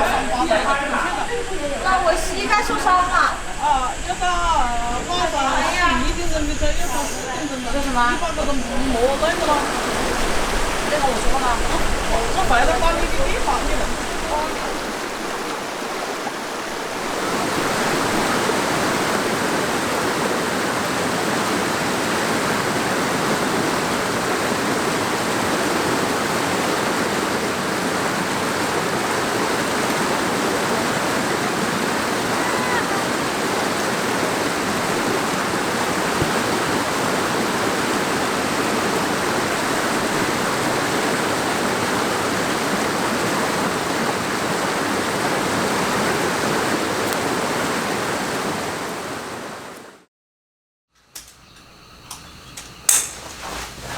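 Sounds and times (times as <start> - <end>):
fast-flowing water rushing: 0.0 - 50.0, 52.9 - 53.9.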